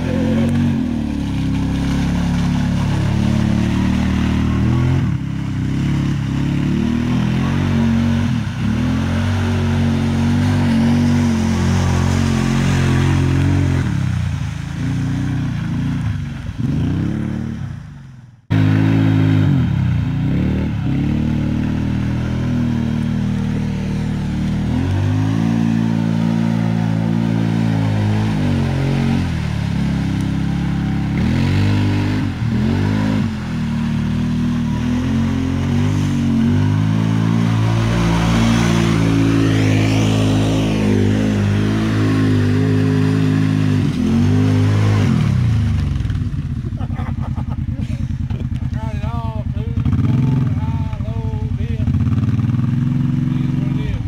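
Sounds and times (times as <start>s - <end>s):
utv engine revving: 0.0s - 54.0s.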